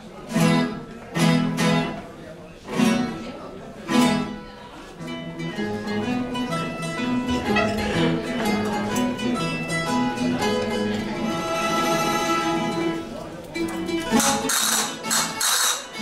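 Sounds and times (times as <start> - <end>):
guitars and bandurrias playing: 0.2 - 16.0.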